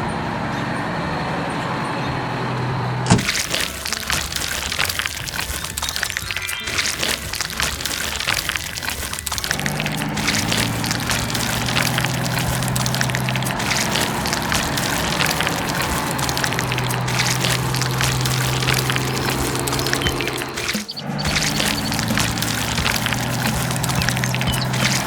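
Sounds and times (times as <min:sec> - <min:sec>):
loose material pouring out: 0:03.1 - 0:25.0.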